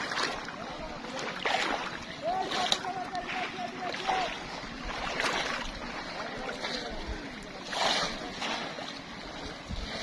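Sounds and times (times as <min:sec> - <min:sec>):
faint voices: 0:00.0 - 0:10.0
shallow river water splashing: 0:00.0 - 0:10.0.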